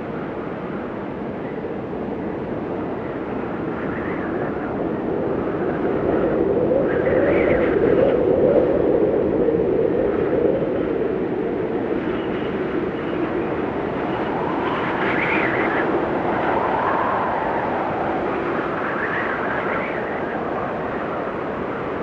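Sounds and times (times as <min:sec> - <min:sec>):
snowstorm wind howling: 0:00.0 - 0:22.0.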